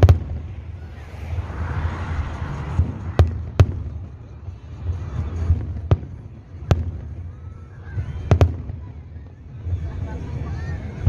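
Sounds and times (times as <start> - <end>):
fireworks low rumble: 0.0 - 11.0.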